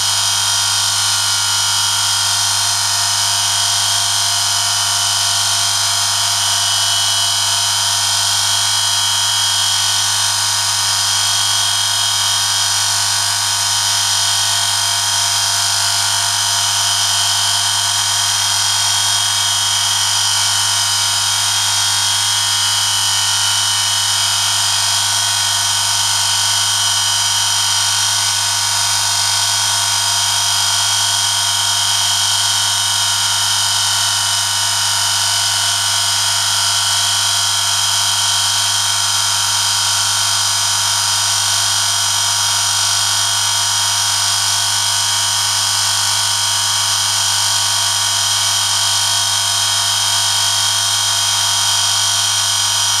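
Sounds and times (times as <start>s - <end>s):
electric motor humming: 0.0s - 45.6s.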